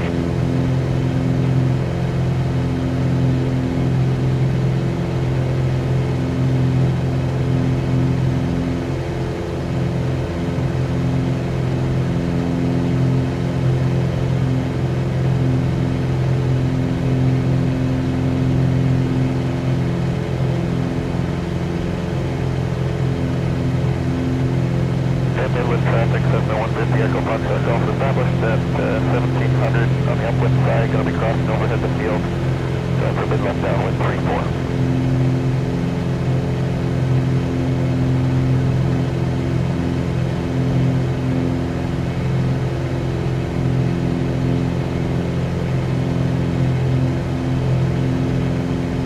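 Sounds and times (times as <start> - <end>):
airplane engine and propeller running: 0.0 - 49.0.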